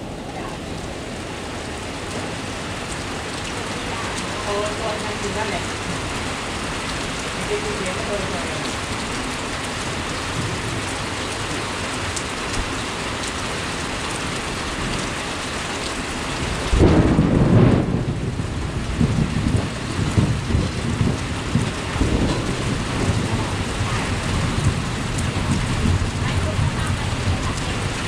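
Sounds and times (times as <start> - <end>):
heavy rain pouring: 0.0 - 28.0
thunder clap and rumbling: 0.0 - 28.0.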